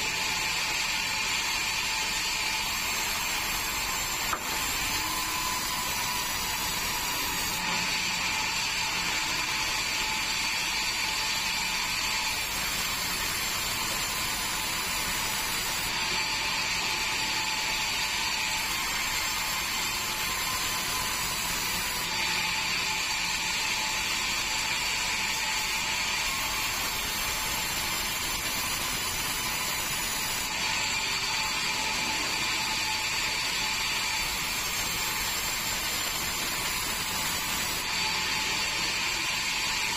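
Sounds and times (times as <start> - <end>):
band saw blade whining: 0.0 - 39.9.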